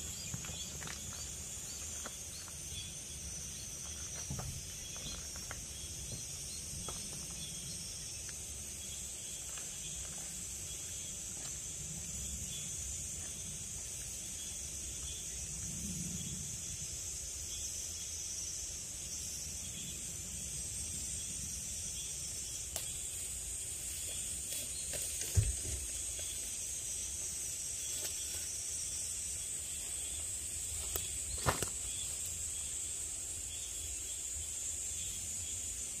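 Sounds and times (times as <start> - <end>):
insect chorus drone: 0.0 - 36.0.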